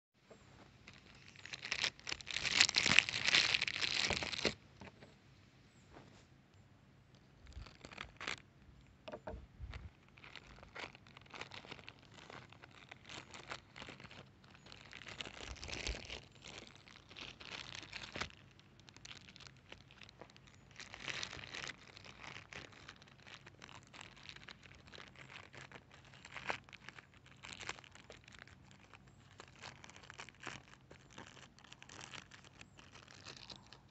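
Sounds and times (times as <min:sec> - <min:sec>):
plastic bag crinkling: 0:00.7 - 0:05.0, 0:07.1 - 0:33.9.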